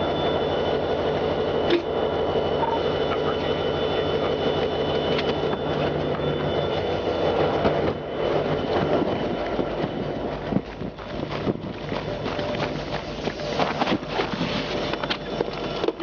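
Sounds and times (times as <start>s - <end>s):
train cars rumbling: 0.0s - 16.0s.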